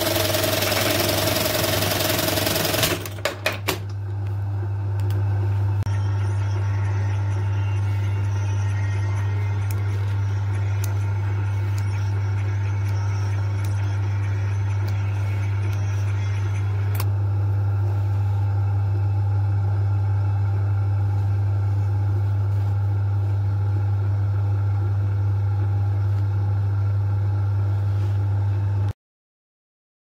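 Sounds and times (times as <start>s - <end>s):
low electrical hum: 3.0s - 28.9s.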